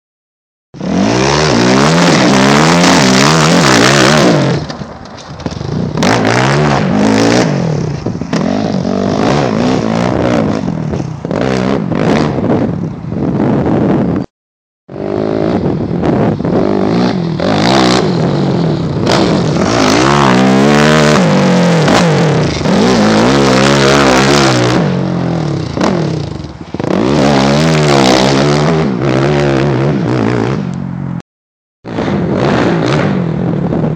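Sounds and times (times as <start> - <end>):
quad bike engine revving: 0.8 - 12.8, 14.9 - 30.9, 31.9 - 33.7.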